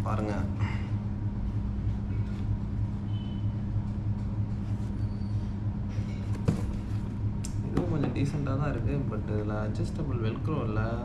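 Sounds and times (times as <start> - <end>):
steady low drone hum: 0.0 - 11.0.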